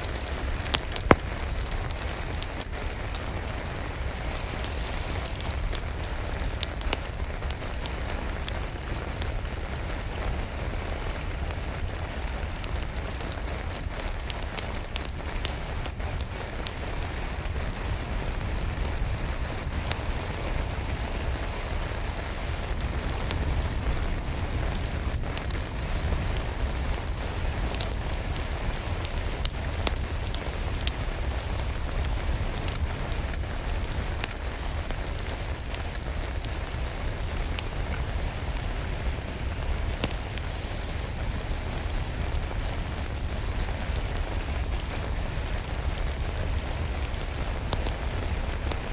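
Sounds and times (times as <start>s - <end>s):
steady rain falling: 0.0s - 48.9s
wood fire crackling: 0.0s - 48.9s.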